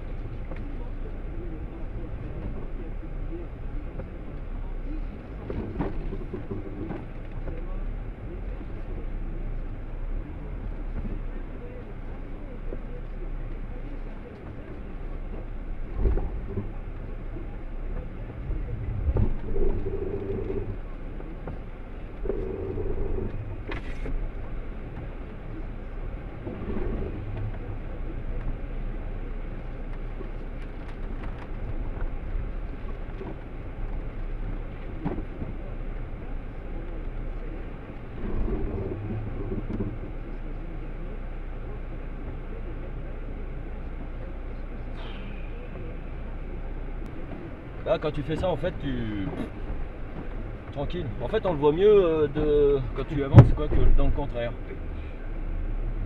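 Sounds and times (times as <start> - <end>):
jeep engine at low revs: 0.0 - 56.0.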